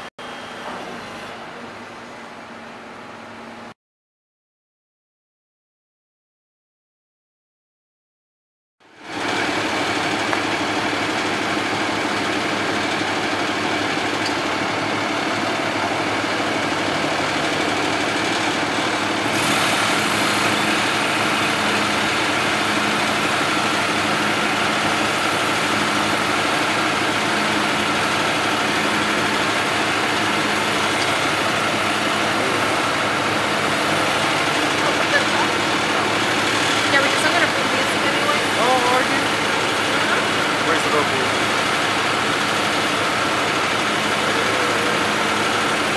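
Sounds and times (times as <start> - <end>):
engine idling: 8.9 - 45.9.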